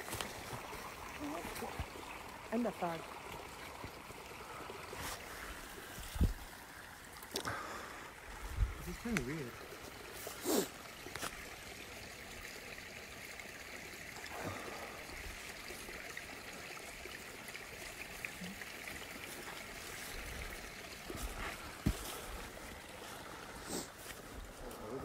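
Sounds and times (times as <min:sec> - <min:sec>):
water trickling: 0:00.0 - 0:25.0.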